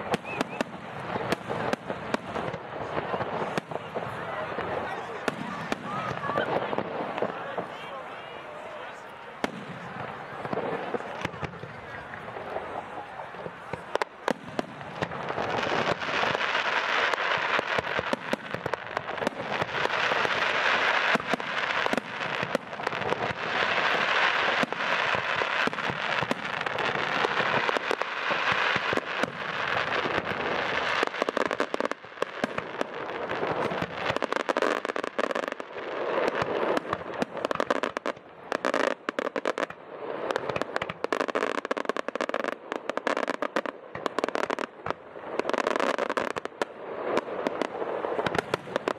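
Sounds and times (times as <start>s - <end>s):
fireworks crackling and popping: 0.0s - 48.9s.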